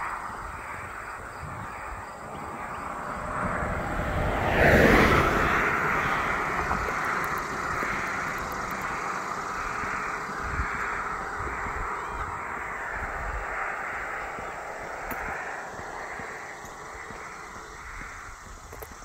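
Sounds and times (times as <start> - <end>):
car passing on asphalt: 0.0 - 19.0.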